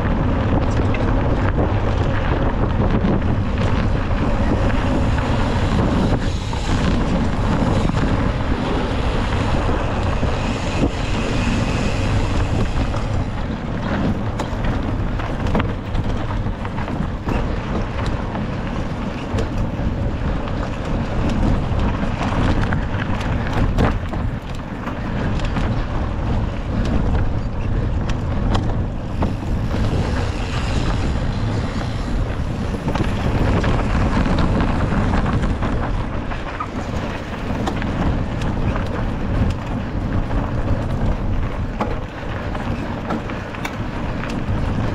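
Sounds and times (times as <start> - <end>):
bike clicks and knocks: 0.0 - 44.9
tyres rumbling on rough trail: 0.0 - 44.9
wind rushing over microphone: 0.0 - 44.9.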